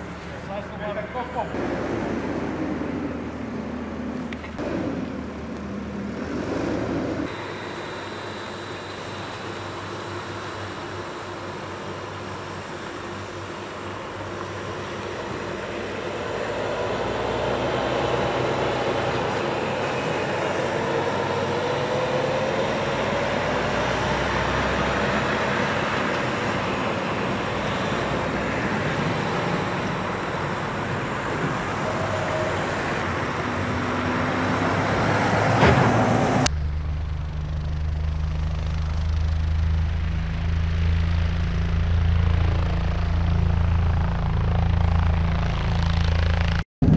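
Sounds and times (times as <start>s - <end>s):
truck engine and road noise: 0.0s - 46.9s
drone propellers humming: 1.4s - 35.6s, 36.3s - 46.9s.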